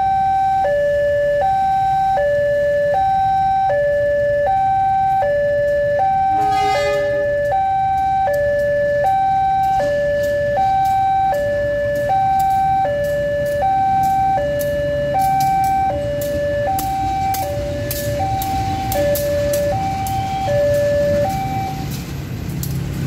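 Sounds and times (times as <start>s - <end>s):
level-crossing two-tone alarm: 0.0s - 22.2s
locomotive rumble: 3.3s - 23.0s.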